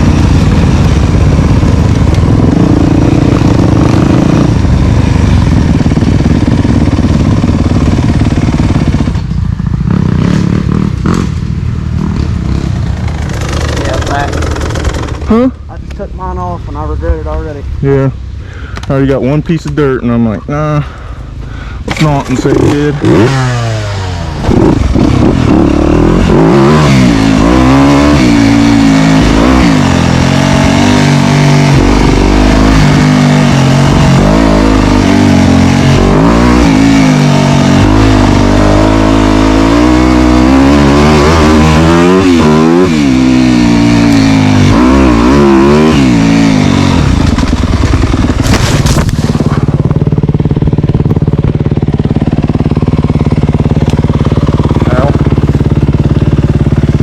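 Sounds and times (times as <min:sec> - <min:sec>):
dirt bike engine revving: 0:00.0 - 0:17.4, 0:21.8 - 0:57.0.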